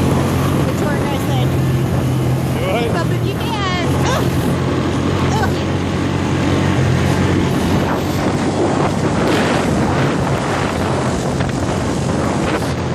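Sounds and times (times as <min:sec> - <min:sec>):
atv engine running: 0:00.0 - 0:12.9
wind on microphone: 0:00.0 - 0:12.9.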